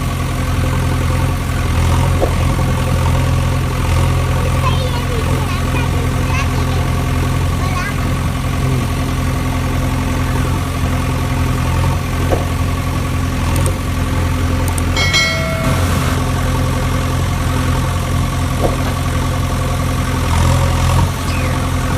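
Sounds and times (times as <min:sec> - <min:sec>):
engine idling hum: 0:00.0 - 0:21.9.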